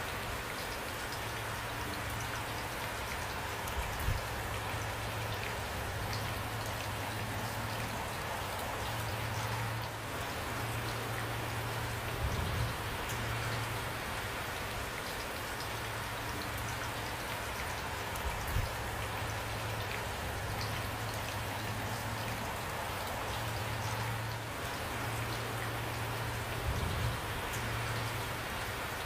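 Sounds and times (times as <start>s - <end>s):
rain with drops ticking: 0.0s - 29.0s.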